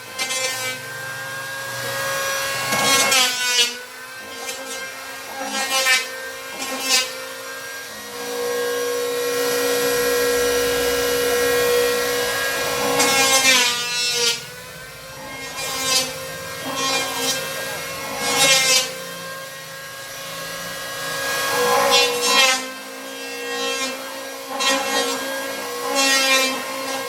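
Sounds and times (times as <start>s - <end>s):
saw cutting plywood: 0.0s - 27.0s.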